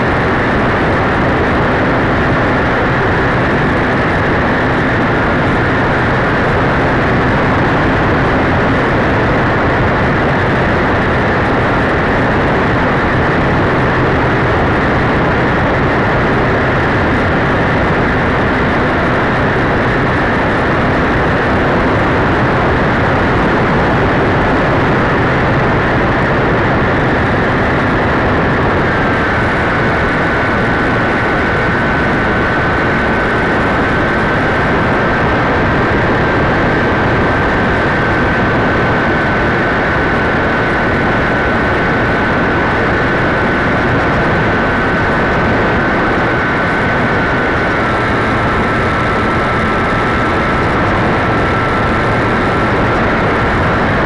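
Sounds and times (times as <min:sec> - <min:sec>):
model airplane motor whine: 0:00.0 - 0:54.0
rush of air noise: 0:00.0 - 0:54.0.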